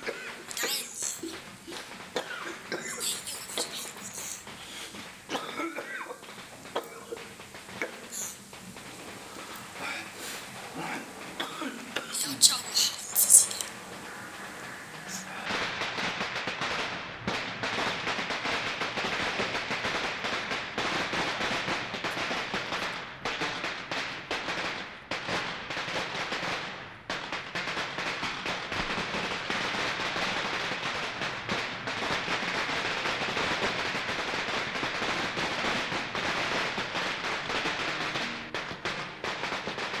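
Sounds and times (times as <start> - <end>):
firecrackers popping: 0.0 - 40.0.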